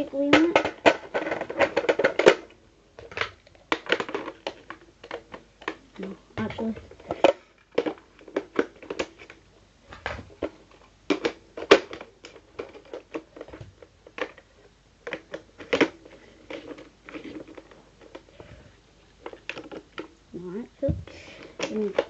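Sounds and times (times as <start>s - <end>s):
plastic parts clicking and rattling: 0.0s - 20.2s, 20.8s - 22.0s.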